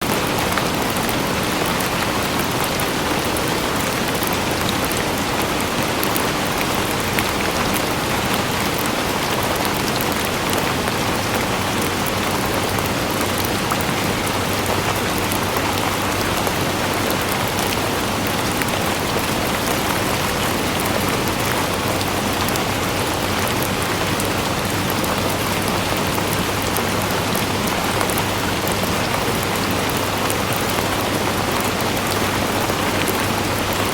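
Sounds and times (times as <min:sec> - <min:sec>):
dense rain falling: 0:00.0 - 0:33.9.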